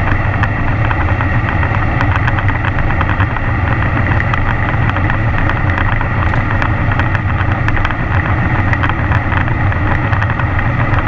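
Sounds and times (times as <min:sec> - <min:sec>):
motorcycle engine running: 0:00.0 - 0:11.0
wind noise: 0:00.0 - 0:11.0.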